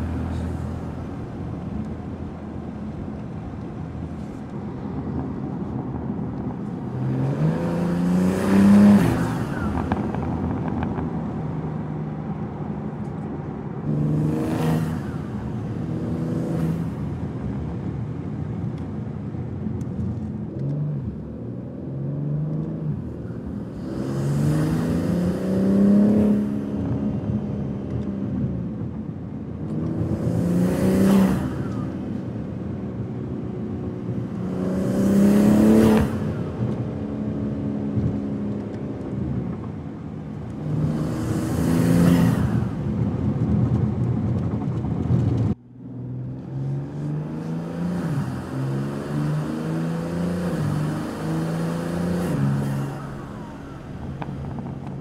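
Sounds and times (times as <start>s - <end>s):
car engine accelerating: 0.0s - 18.8s, 29.6s - 55.0s.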